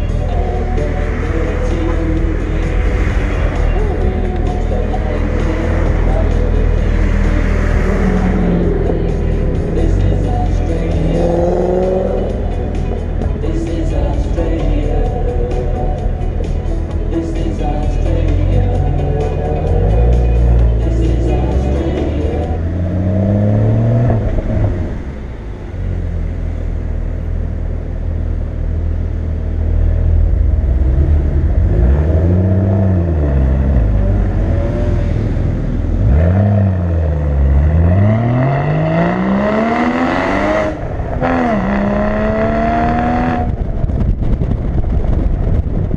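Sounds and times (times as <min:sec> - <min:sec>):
car engine revving and accelerating: 0:00.0 - 0:45.7.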